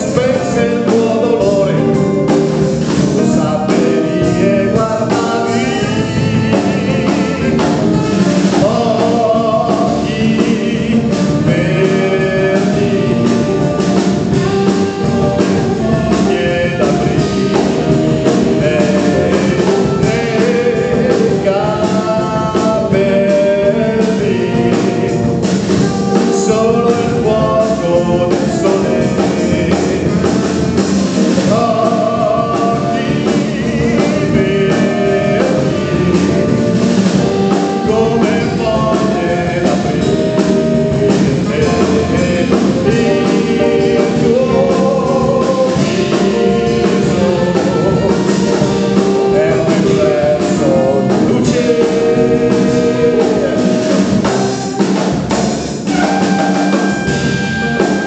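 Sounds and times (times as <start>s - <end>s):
man singing: 0.0s - 55.2s, 55.8s - 58.0s
drum kit: 0.0s - 58.0s
electric bass: 0.0s - 58.0s
electric guitar: 0.0s - 58.0s.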